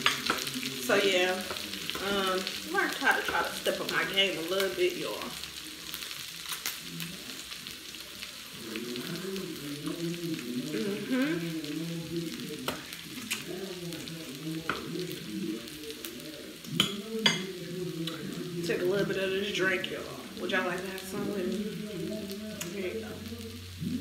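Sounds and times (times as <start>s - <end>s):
food sizzling in oil: 0.0s - 24.0s.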